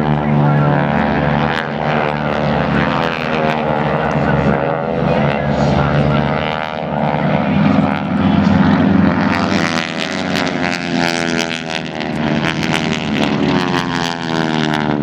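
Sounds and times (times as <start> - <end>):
propeller airplane flying over: 0.0 - 15.0.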